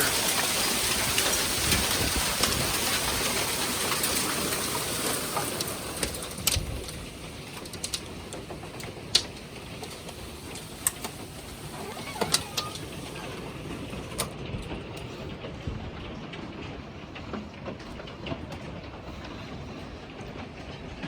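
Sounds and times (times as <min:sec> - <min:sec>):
hailstones clicking on hard surfaces: 0:00.0 - 0:19.5
heavy rain rushing: 0:00.0 - 0:20.4.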